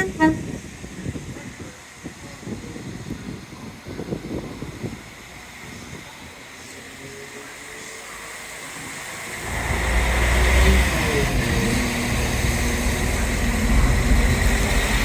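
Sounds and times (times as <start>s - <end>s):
diesel train engine rumbling: 0.0s - 15.0s.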